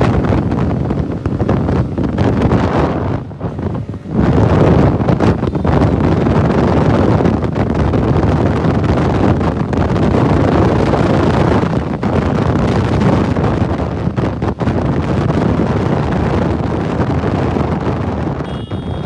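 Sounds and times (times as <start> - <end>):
wind buffeting on microphone: 0.0 - 19.0.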